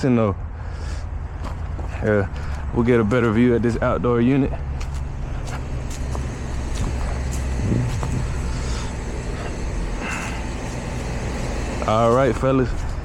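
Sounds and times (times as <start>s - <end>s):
heat pump humming: 0.6s - 13.0s.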